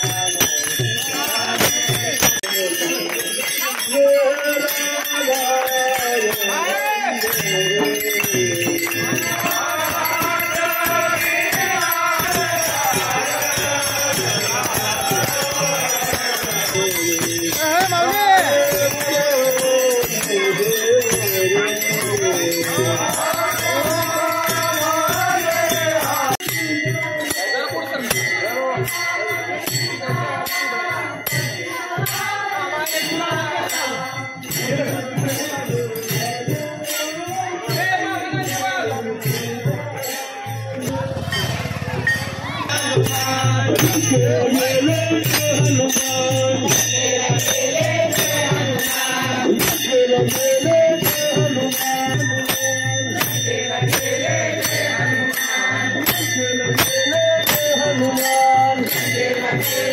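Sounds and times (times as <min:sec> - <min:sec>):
group devotional singing: 0:00.0 - 0:59.9
jingling rattling percussion: 0:00.0 - 0:59.9.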